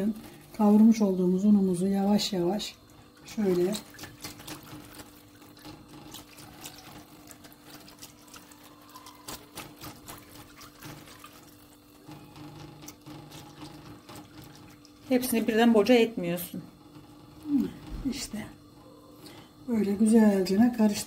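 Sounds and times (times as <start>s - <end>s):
whisk clicking on saucepan: 0.0s - 18.4s
whisk swishing liquid in saucepan: 0.0s - 18.5s
faint steady hum: 0.0s - 21.0s.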